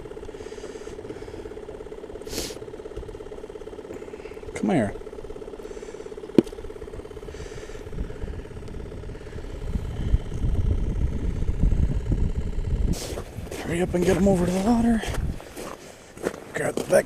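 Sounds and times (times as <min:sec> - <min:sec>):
low uneven rumble: 0:00.0 - 0:17.0
small engine idling: 0:00.0 - 0:17.0.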